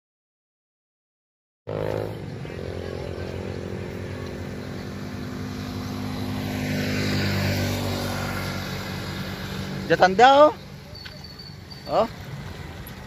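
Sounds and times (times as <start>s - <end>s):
vehicle engine humming: 1.7s - 13.0s.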